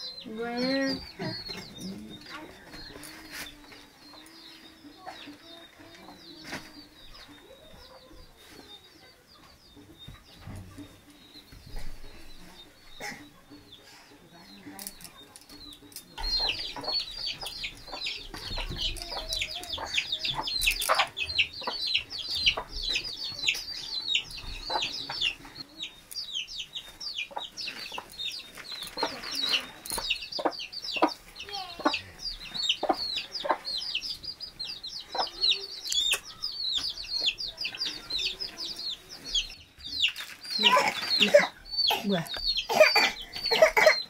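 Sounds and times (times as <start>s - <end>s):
chickens clucking: 0.0s - 44.0s
chicks peeping: 0.0s - 44.0s.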